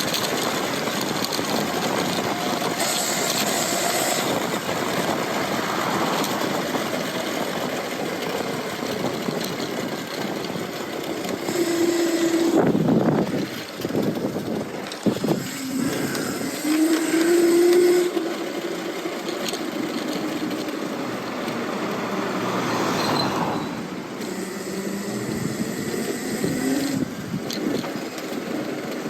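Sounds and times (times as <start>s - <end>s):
electric bike motor whining: 0.0s - 29.0s
road and traffic noise: 0.0s - 29.0s.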